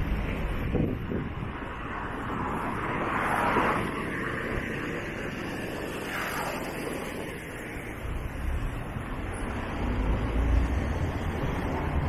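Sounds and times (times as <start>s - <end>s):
vehicles driving by: 0.0s - 12.0s.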